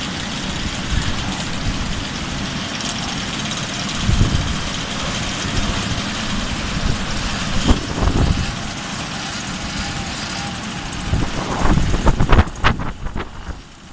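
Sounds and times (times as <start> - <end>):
moped engines idling: 0.0 - 13.9.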